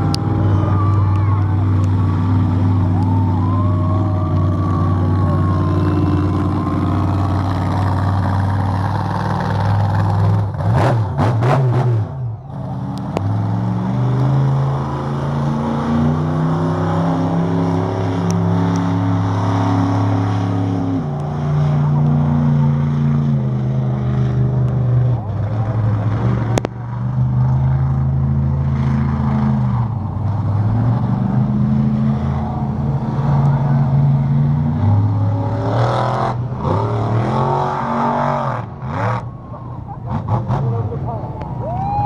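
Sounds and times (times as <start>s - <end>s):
truck engine idling and revving: 0.0s - 42.0s.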